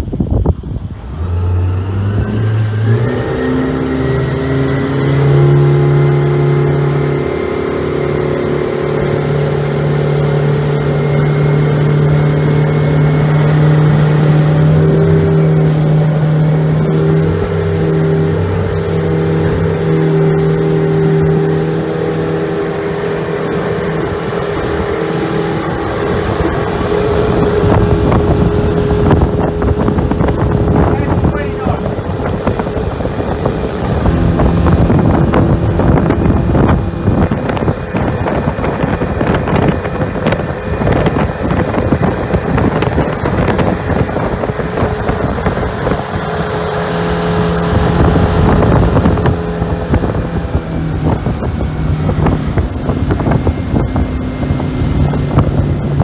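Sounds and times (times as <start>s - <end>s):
outboard motor running hard: 0.0s - 56.0s
rushing water: 0.0s - 56.0s
wind: 0.0s - 56.0s.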